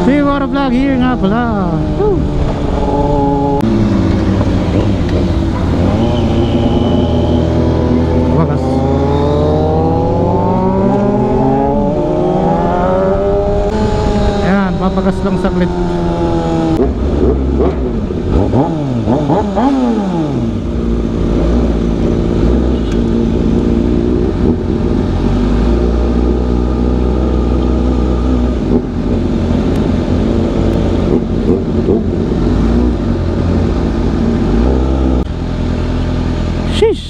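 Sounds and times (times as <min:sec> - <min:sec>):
motorcycle engine revving: 0:00.0 - 0:36.6.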